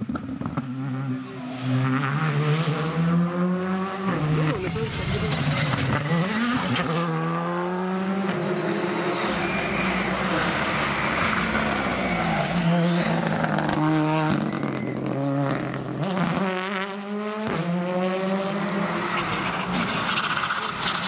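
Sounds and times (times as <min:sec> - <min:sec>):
car engine approaching: 0:00.0 - 0:21.0
rally car engine revving: 0:00.0 - 0:21.0.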